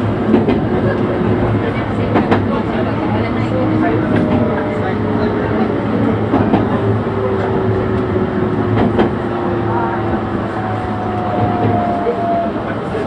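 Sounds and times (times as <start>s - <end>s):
train rolling noise: 0.0s - 13.0s
wheels clacking on rails: 0.0s - 13.0s.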